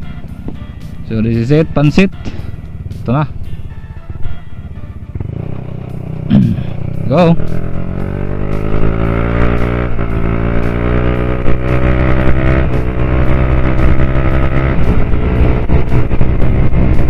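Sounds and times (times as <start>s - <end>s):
scooter engine accelerating: 2.4s - 17.0s.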